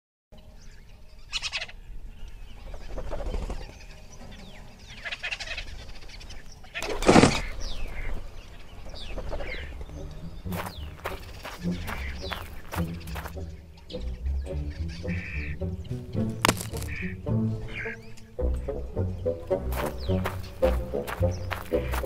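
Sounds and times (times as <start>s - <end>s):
birds calling and chirping: 0.4s - 22.0s.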